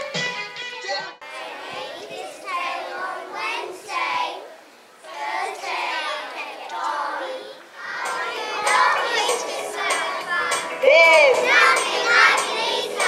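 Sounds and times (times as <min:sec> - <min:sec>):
young children singing: 0:01.2 - 0:13.0.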